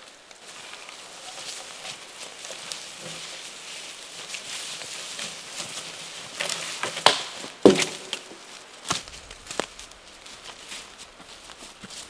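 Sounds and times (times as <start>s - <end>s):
dead branches rustling and knocking: 0.0s - 12.0s
footsteps crunching dry leaves: 0.0s - 12.0s.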